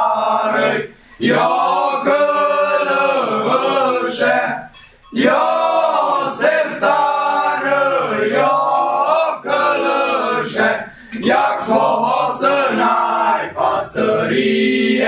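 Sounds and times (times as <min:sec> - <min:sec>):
young men singing a carol: 0:00.0 - 0:15.0.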